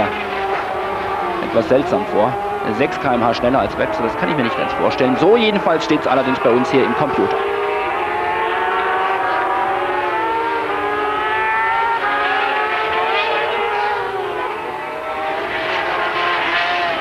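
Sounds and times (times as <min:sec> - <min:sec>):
racing sidecar engines revving: 0:00.0 - 0:17.0.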